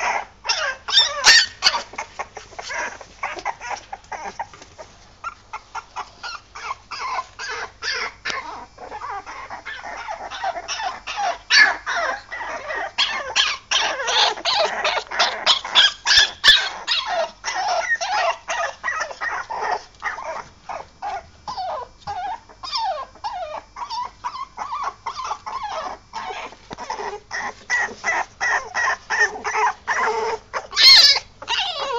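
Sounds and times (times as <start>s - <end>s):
puppies whimpering and squealing: 0.0s - 31.9s.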